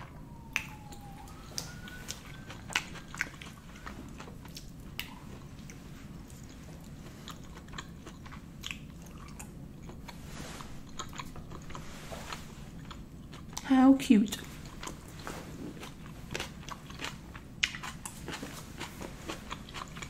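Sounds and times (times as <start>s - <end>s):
person chewing food: 0.3s - 13.6s, 14.4s - 20.0s.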